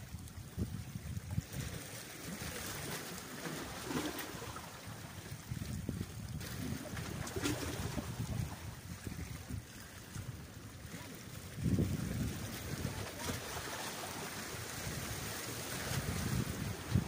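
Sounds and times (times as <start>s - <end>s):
wind buffeting microphone: 0.0s - 3.0s, 3.6s - 17.0s
waves washing against rocks: 0.0s - 17.0s.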